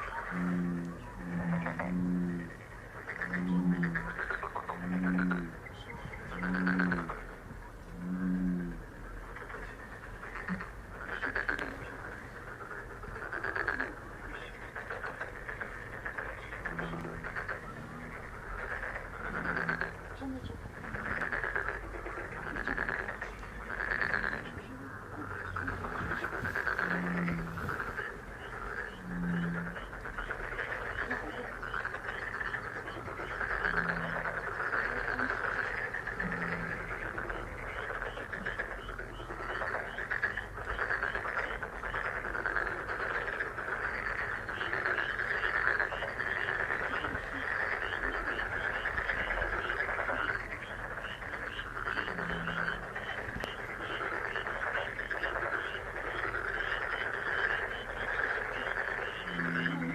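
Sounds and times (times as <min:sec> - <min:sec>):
chorus of frogs calling: 0:00.0 - 0:59.9
rapid high frog notes: 0:08.0 - 0:20.2, 0:20.8 - 0:59.9
short deeper frog call: 0:09.4 - 0:20.2, 0:20.8 - 0:59.9.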